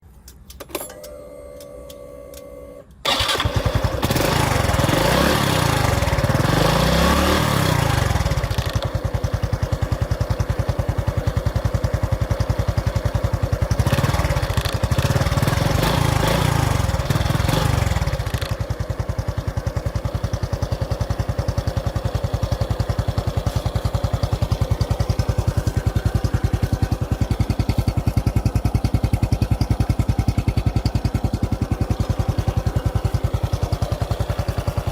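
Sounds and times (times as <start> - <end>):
motorcycle engine starting and revving: 2.9 - 34.9.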